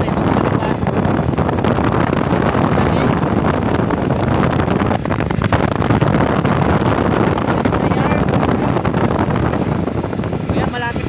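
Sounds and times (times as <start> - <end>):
motorcycle engine: 0.0 - 11.0
road noise: 0.0 - 11.0
wind buffeting microphone: 0.0 - 11.0.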